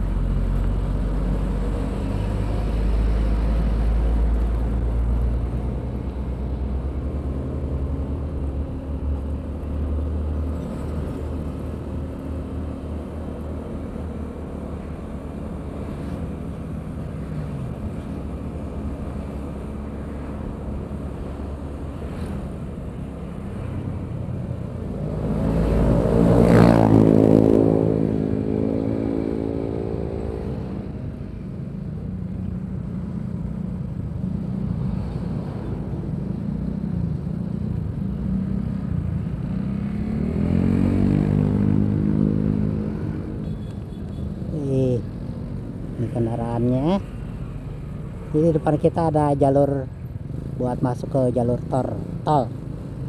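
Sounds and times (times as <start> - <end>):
traffic engines running slowly: 0.0 - 53.0.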